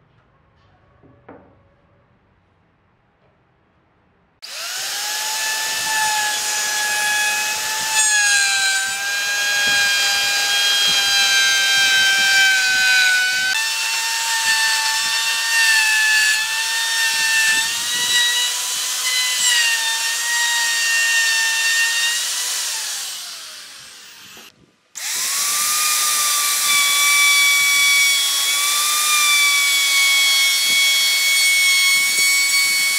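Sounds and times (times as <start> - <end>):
power tool motor whining: 4.4 - 32.9.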